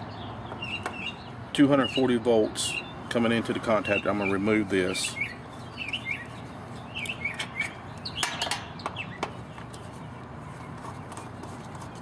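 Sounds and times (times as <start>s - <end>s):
small bird chirping: 0.0s - 2.0s, 3.8s - 12.0s.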